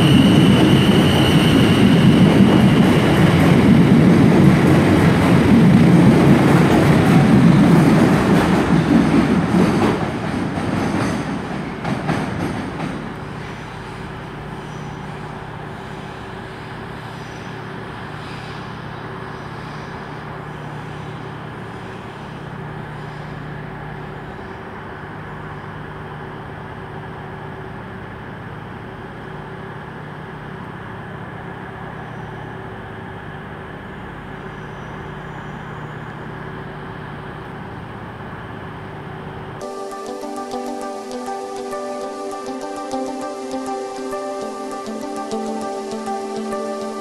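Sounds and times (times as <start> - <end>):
train humming at platform: 0.0 - 47.0.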